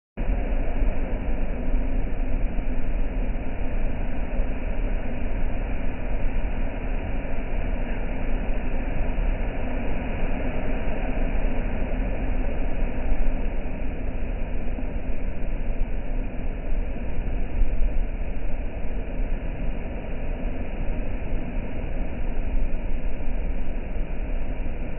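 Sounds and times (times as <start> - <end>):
deep rumble: 0.2 - 24.9
roar of rough surf: 0.2 - 24.9.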